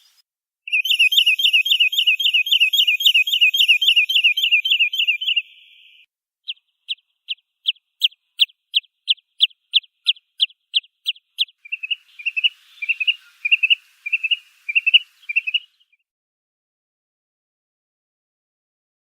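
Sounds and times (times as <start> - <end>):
sandpiper calling: 0.0 - 16.0.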